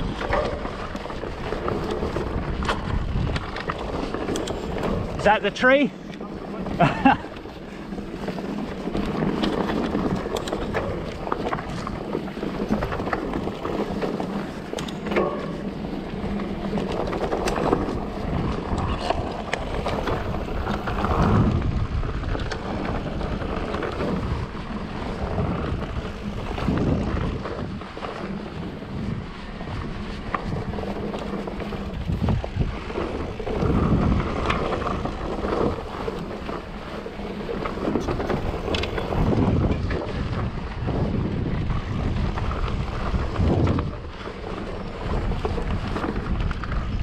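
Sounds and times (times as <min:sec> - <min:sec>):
bike rattling over bumps: 0:00.0 - 0:47.0
bike tyres rumbling over dirt: 0:00.0 - 0:47.0
wind buffeting microphone: 0:00.0 - 0:47.0.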